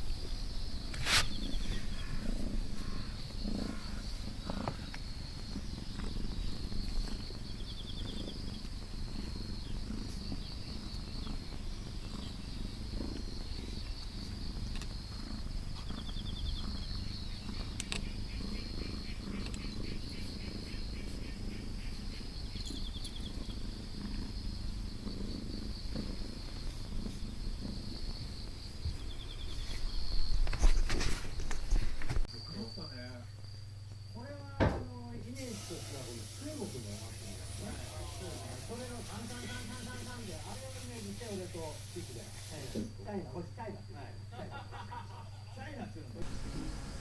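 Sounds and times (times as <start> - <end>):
kitten purring: 0.0 - 32.3, 35.3 - 43.0, 46.1 - 47.0.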